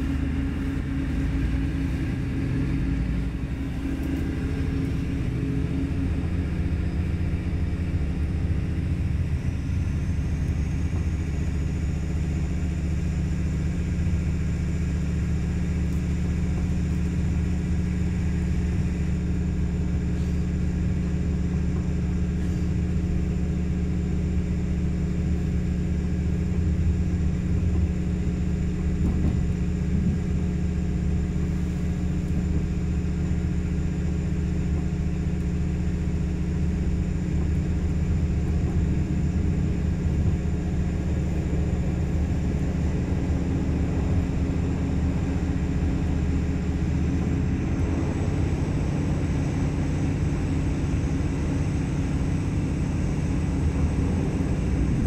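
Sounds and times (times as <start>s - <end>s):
train diesel engine hum: 0.0s - 55.0s.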